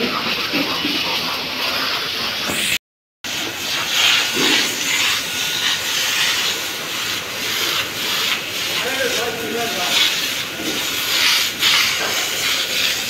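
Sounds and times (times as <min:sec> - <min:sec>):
hose water jet splashing: 0:00.0 - 0:13.0.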